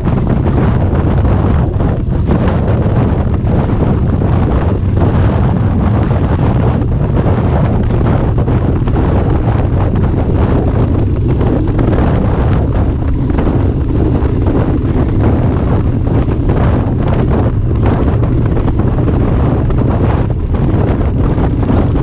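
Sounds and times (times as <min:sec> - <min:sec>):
motorcycle engine drone: 0:00.0 - 0:22.0
road noise: 0:00.0 - 0:22.0
wind buffeting on microphone: 0:00.0 - 0:22.0.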